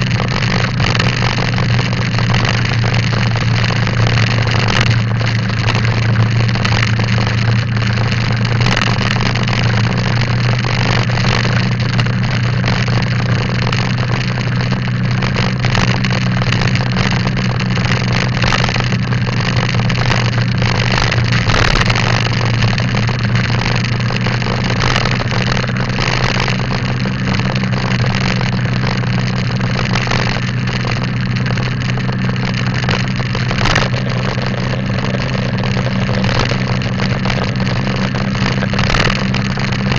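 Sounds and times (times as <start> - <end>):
motorcycle engine drone: 0.0 - 39.9
rushing wind noise: 0.0 - 39.9.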